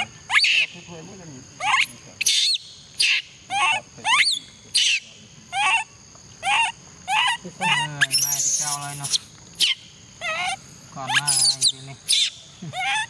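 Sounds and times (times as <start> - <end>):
baby monkey high cries: 0.0 - 0.8, 1.6 - 13.0.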